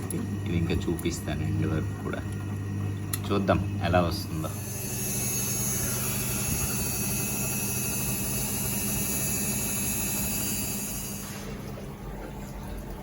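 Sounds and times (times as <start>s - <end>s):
washing machine motor hum and whine: 0.0s - 13.0s.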